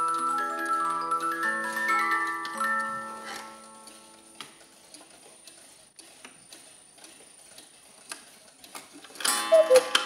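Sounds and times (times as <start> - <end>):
cuckoo clock ticking: 0.0 - 10.0.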